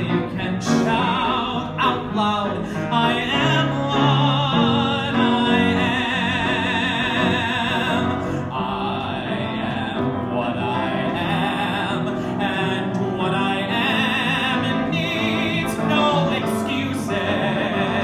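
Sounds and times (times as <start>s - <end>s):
instrumental accompaniment: 0.0s - 18.0s
man singing: 0.0s - 18.0s.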